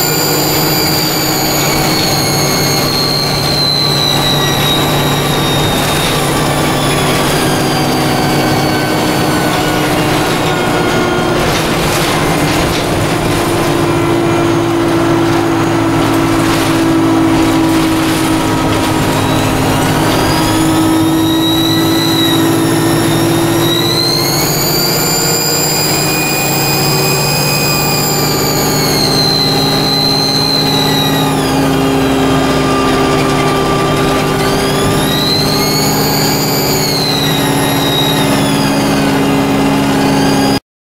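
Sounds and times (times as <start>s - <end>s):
bus diesel engine running: 0.0s - 40.6s
turbocharger whine: 0.0s - 40.6s.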